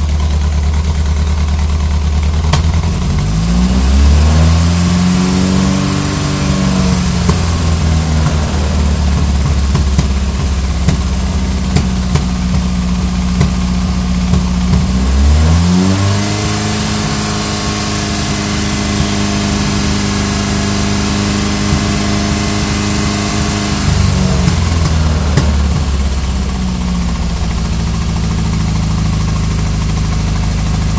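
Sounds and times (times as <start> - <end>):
car engine misfiring: 0.0 - 30.9.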